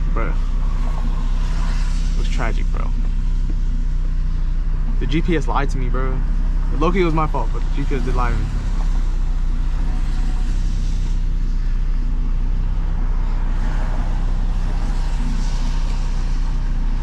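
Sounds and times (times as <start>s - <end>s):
car engine running: 0.0s - 17.0s
road noise hiss: 0.0s - 17.0s.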